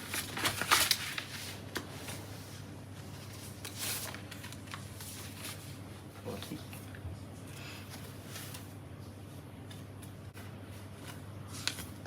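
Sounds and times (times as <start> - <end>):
rustling and handling noises: 0.0 - 12.0.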